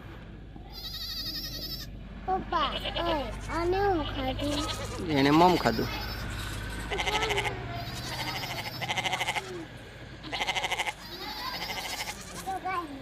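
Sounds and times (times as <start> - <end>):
sheep bleating: 0.7 - 1.9, 2.6 - 12.6.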